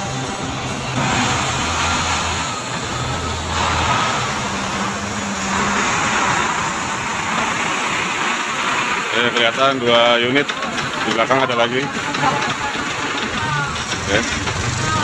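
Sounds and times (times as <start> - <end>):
truck diesel engine passing: 0.0 - 15.0.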